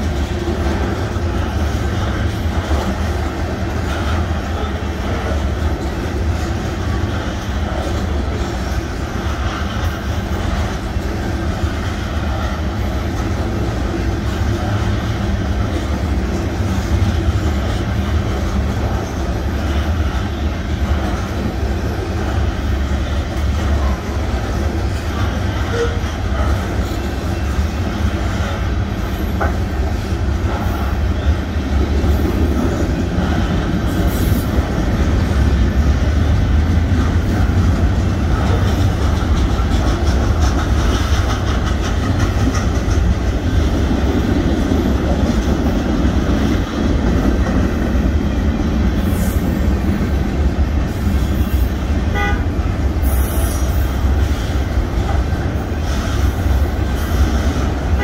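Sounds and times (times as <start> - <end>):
freight train cars rumbling: 0.0 - 58.0
wheels clacking over rail joints: 0.0 - 58.0.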